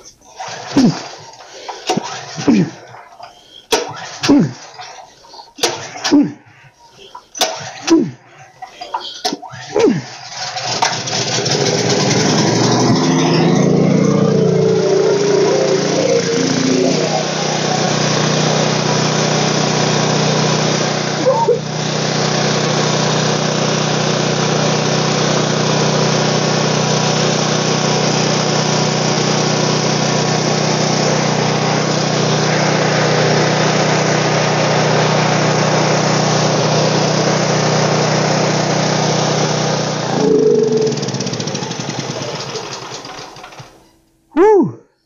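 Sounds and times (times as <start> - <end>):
generator engine running: 0.0 - 43.9.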